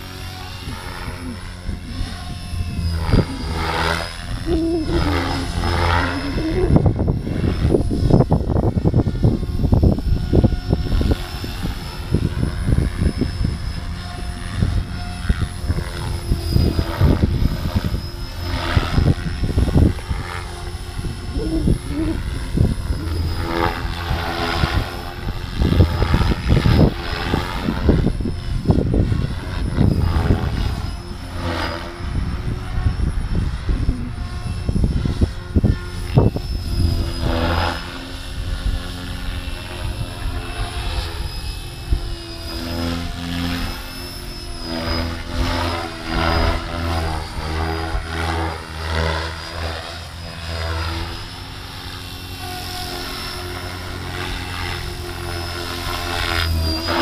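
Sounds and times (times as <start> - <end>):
electric motor whine: 0.0 - 57.0
gusting low rumble: 0.0 - 57.0
rotor blade whoosh: 0.0 - 57.0.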